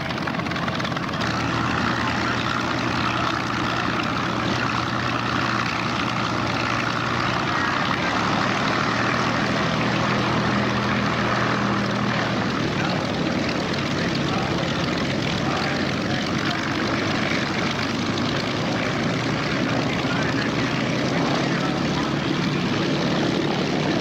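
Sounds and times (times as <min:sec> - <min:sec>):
higher engine tone: 0:00.0 - 0:24.0
propeller aircraft engine running: 0:00.0 - 0:24.0.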